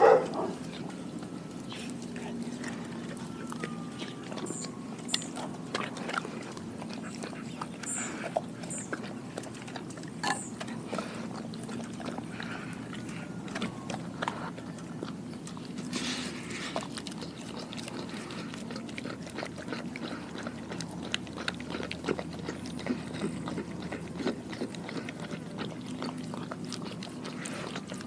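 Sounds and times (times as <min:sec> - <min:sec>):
dog chewing and crunching fish: 0:00.0 - 0:28.0.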